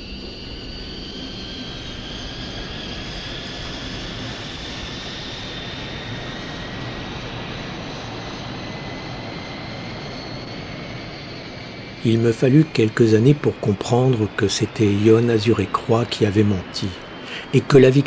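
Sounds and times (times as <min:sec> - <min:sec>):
jet-like rushing roar: 0:00.0 - 0:18.0
thin whining tones: 0:00.0 - 0:18.0.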